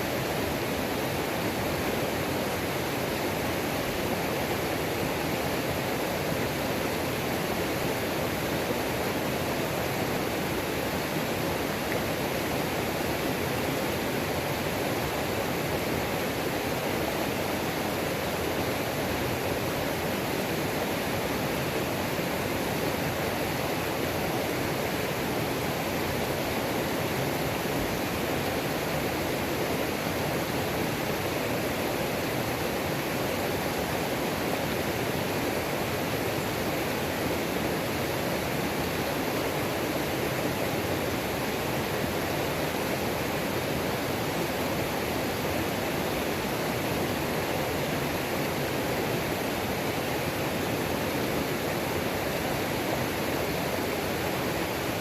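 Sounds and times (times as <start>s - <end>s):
waterfall roaring over rocks: 0.0s - 55.0s.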